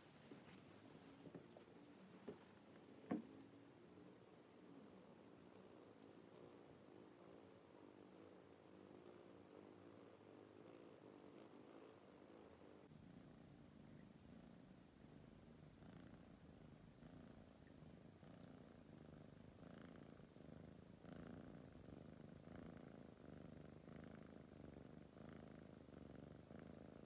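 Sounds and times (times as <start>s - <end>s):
kitten purring softly: 0.0s - 27.0s.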